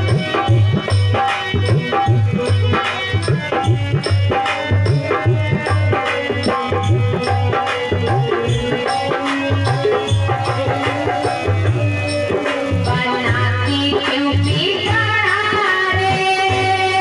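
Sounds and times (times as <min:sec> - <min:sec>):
hand drum beating: 0:00.0 - 0:15.1
held melody notes: 0:00.0 - 0:17.0.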